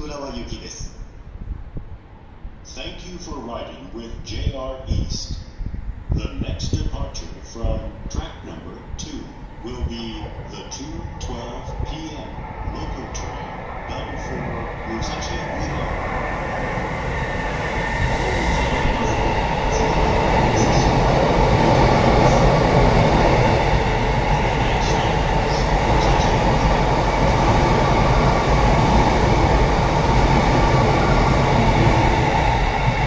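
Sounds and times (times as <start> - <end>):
train wheels rumbling on rail: 5.8 - 33.0.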